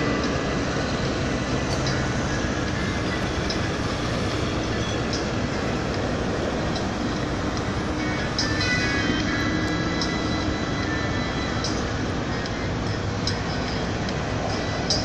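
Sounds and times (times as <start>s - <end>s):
coach engine rumble: 0.0s - 15.0s.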